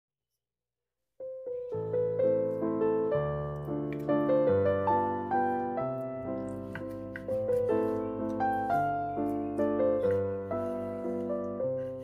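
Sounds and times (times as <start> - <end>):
piano music: 1.2 - 12.0.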